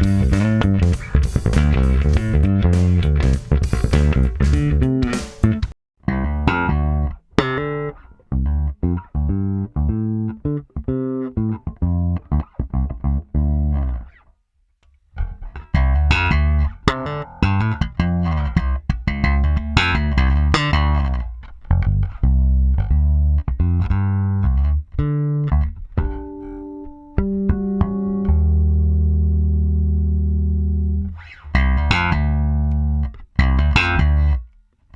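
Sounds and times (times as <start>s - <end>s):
electric bass plucked notes: 0.0s - 14.2s, 15.2s - 34.6s.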